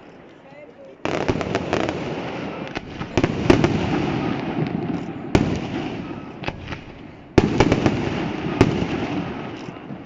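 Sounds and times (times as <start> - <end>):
fireworks bangs: 1.0 - 10.0
sharp firework crack: 1.0 - 10.0.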